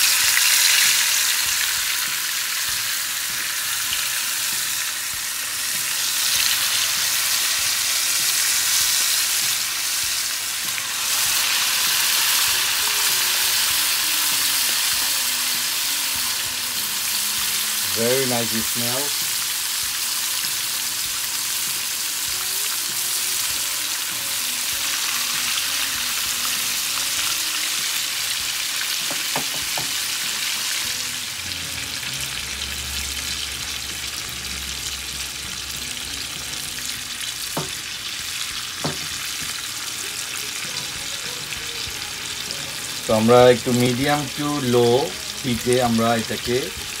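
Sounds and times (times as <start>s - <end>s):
fish sizzling in oil: 0.0s - 47.0s.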